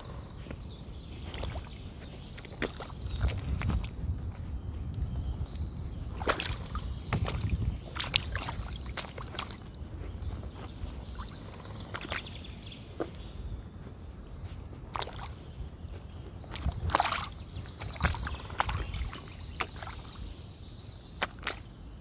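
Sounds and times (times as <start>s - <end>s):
feet squelching through mud: 0.0s - 4.7s, 6.1s - 22.0s.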